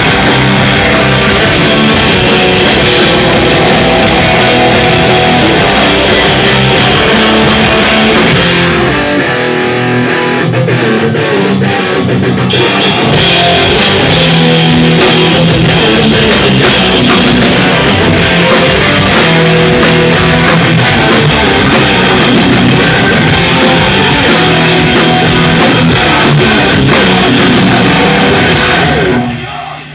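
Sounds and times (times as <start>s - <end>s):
distorted electric guitars: 0.0s - 29.9s
drum kit: 0.0s - 29.9s
electric bass: 0.0s - 29.9s.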